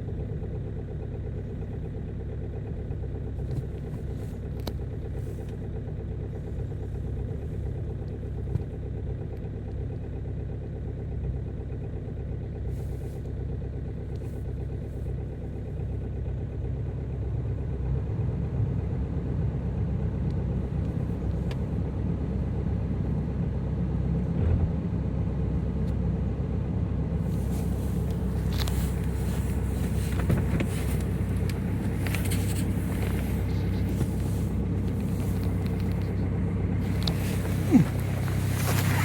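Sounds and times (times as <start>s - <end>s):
diesel engine idling: 0.0s - 24.2s, 25.5s - 39.0s.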